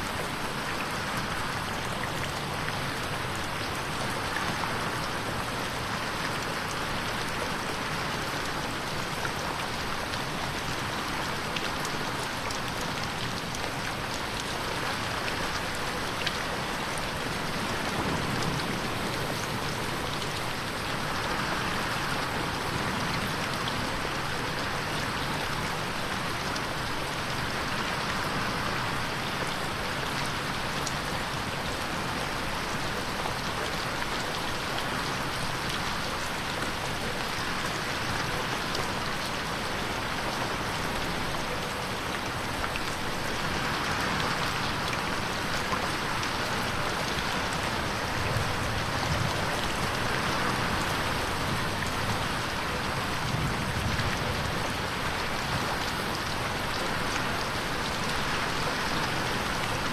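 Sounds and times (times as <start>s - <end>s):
rain pattering on a window: 0.0s - 59.9s.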